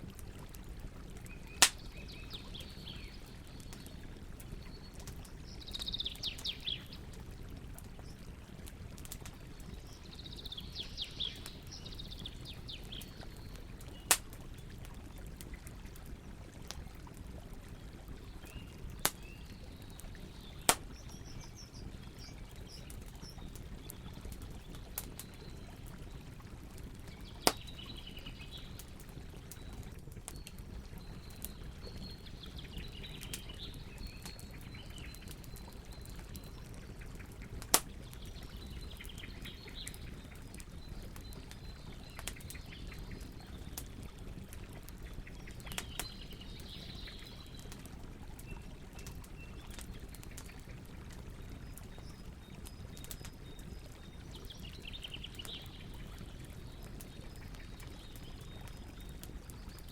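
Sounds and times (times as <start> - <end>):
campfire hissing and crackling: 0.0 - 59.9
small birds chirping: 1.2 - 16.5, 17.1 - 59.9.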